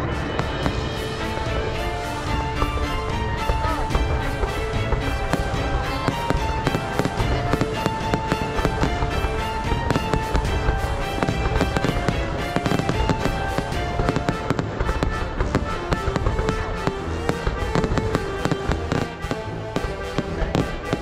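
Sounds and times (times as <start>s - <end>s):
fireworks bangs and crackles: 0.0s - 21.0s
music playing: 0.0s - 21.0s.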